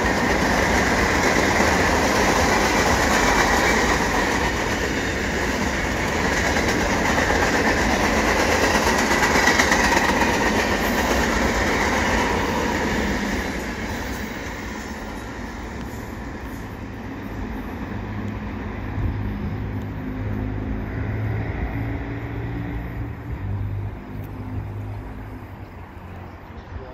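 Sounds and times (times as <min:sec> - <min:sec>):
freight train wheels on rails: 0:00.0 - 0:26.9.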